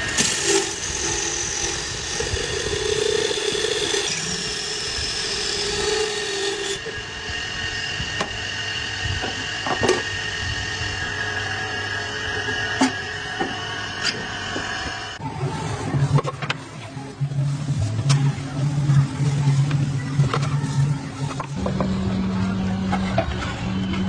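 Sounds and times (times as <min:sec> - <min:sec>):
motor running steadily: 0:00.0 - 0:24.0.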